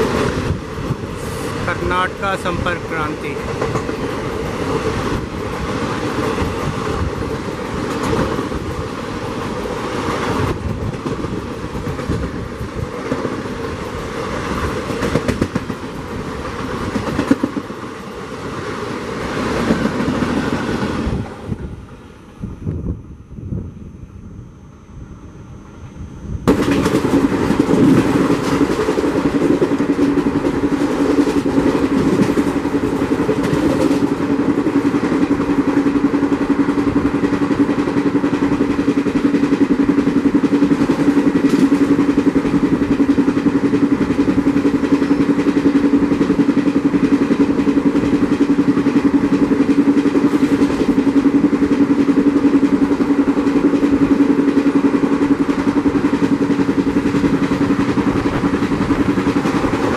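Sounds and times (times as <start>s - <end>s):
train wheels rushing on rails: 0.0s - 22.9s, 25.6s - 59.9s.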